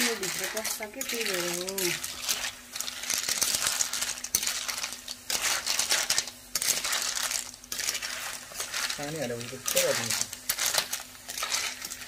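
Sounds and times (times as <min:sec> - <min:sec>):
metal spoon scraping pan: 0:00.0 - 0:12.0
snail shells clattering: 0:00.0 - 0:12.0.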